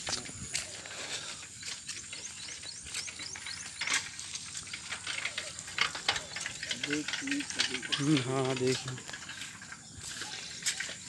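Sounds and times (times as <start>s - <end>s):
footsteps squelching in mud: 0.0s - 11.0s.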